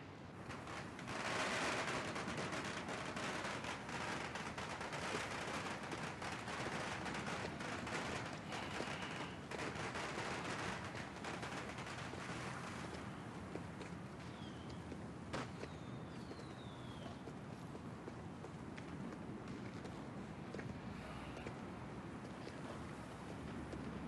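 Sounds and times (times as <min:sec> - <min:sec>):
distant firecrackers crackling: 0:00.0 - 0:24.0.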